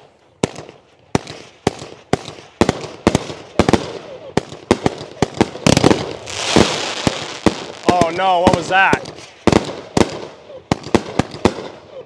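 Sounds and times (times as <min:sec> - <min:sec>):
firework launch reports: 0:00.0 - 0:12.0
hissing crackling firework tails: 0:00.0 - 0:12.0.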